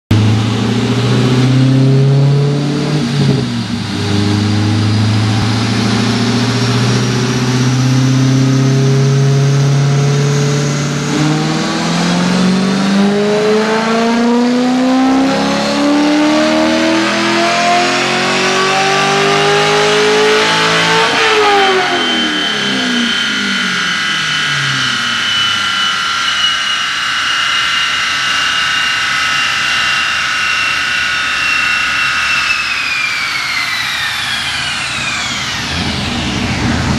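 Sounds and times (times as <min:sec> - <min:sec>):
car engine revving on dyno: 0:00.1 - 0:36.9
high whine falling in pitch: 0:00.1 - 0:36.9.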